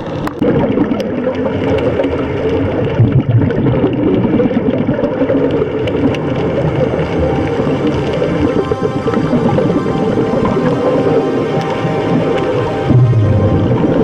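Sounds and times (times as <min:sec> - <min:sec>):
underwater bubbling of exhaled air: 0:00.0 - 0:14.0.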